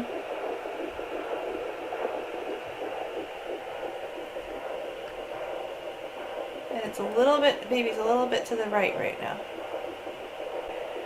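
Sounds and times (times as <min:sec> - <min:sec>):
faint fast heartbeat pulsing: 0:00.0 - 0:11.0.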